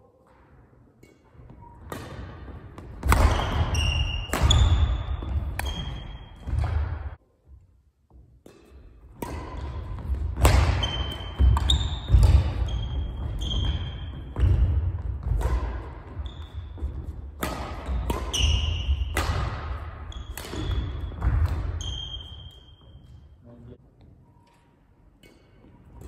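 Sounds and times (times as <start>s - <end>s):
court shoes squeaking: 0.2s - 7.2s, 8.4s - 23.4s
rackets striking shuttlecock: 1.0s - 7.2s, 8.4s - 22.8s, 25.1s - 26.0s.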